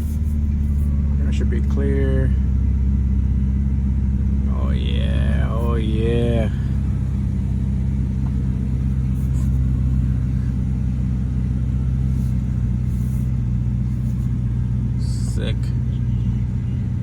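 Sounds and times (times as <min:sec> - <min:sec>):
car engine low hum in cabin: 0:00.0 - 0:17.0.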